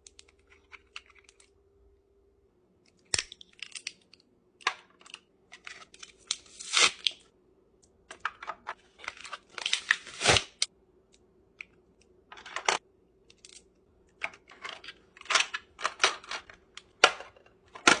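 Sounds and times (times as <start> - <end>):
faint steady hum: 0.0 - 9.9, 10.7 - 17.9.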